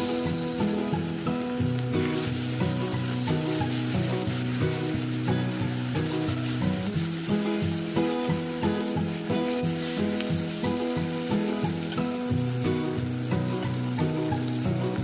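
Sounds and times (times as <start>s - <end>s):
background music with simple melody: 0.0s - 15.0s
egg sizzling in a wok: 0.0s - 15.0s.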